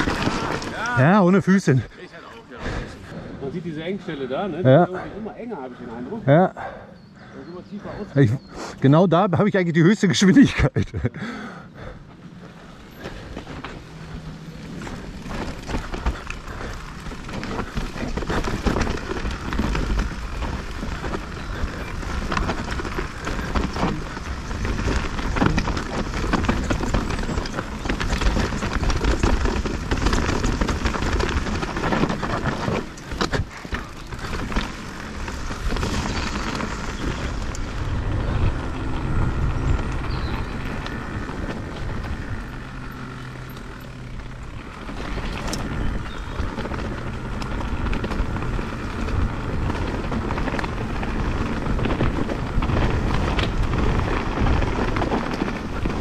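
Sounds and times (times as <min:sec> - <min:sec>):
bike knocking and rattling: 0:00.0 - 0:06.3, 0:10.1 - 0:56.0
bike tyres rumbling on trail: 0:00.0 - 0:56.0.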